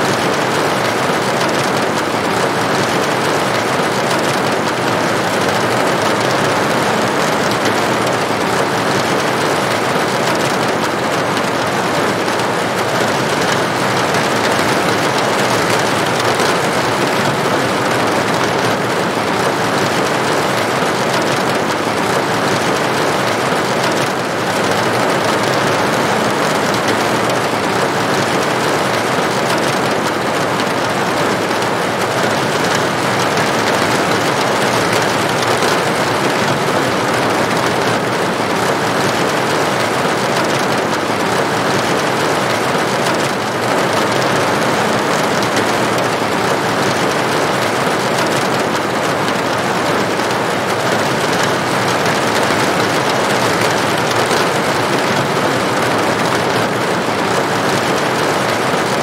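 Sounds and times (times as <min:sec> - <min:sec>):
heavy rain on a metal roof: 0:00.0 - 0:59.0.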